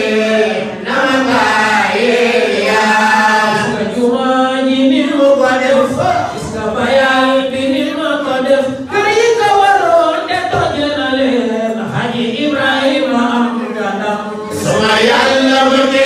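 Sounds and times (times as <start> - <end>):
men chanting a devotional song: 0.0 - 16.0.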